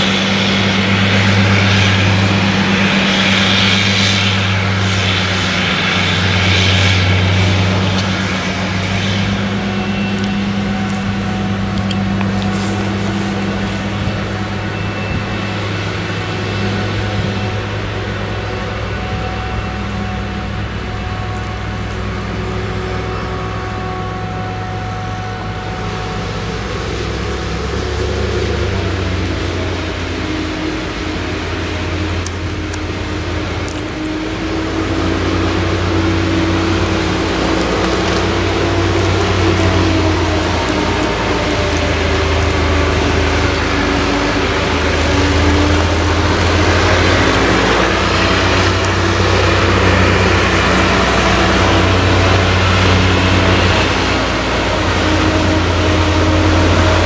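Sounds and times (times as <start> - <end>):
forage harvester low drone: 0.0 - 57.0.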